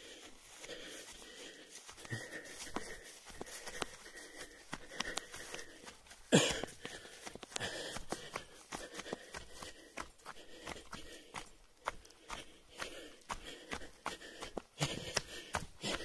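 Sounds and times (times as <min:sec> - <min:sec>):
footfalls running downhill: 0:00.0 - 0:16.0
runner breathing heavily: 0:00.0 - 0:16.0.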